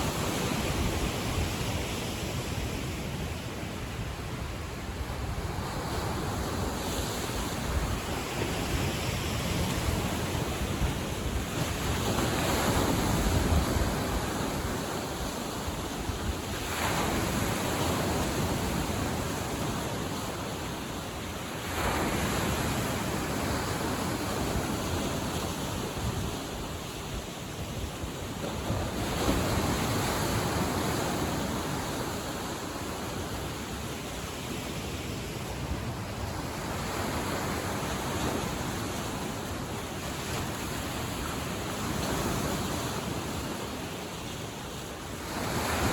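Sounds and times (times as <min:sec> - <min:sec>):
wind rumbling on microphone: 0:00.0 - 0:44.3
waves washing onto shore: 0:00.0 - 0:45.9.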